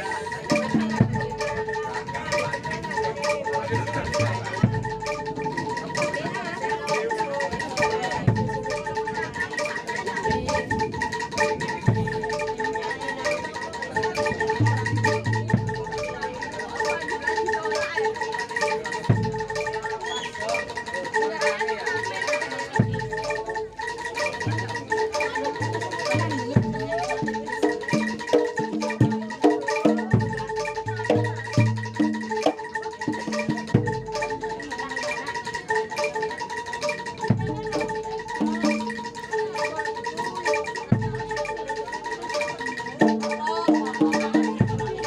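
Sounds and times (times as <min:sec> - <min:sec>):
mallet-struck metal instruments: 0:00.0 - 0:45.0.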